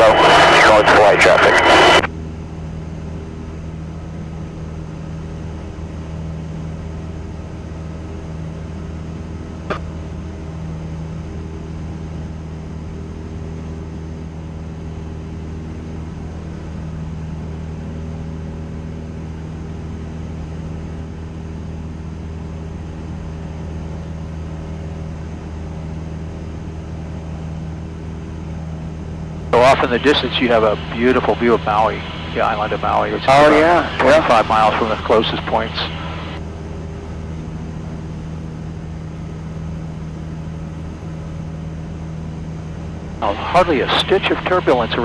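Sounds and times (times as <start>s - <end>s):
propeller plane engine droning: 0.0s - 45.0s.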